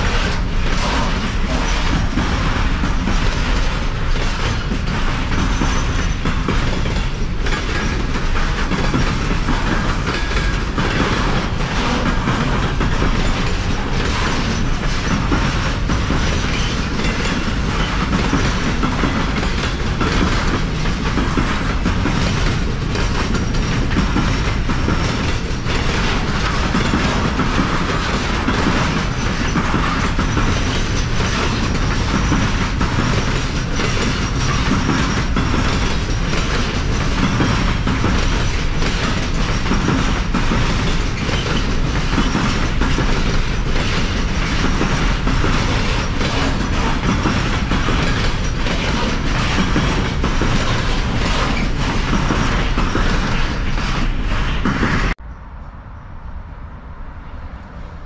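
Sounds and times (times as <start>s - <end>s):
freight train wheels clattering: 0.0s - 55.2s.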